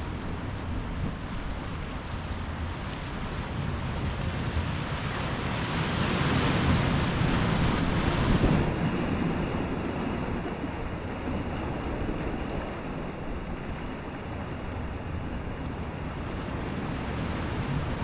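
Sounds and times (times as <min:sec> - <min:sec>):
low roll of the sea: 0:00.0 - 0:18.0.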